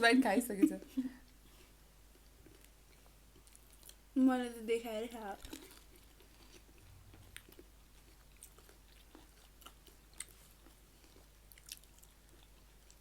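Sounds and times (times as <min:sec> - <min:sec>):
faint chewing: 0:00.8 - 0:04.1, 0:05.1 - 0:13.0.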